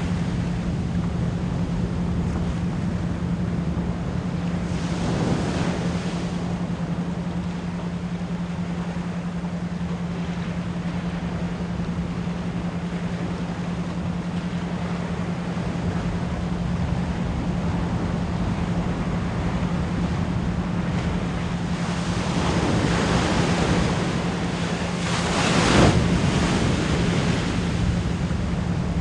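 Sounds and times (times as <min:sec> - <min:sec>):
ocean surf: 0:00.0 - 0:29.0.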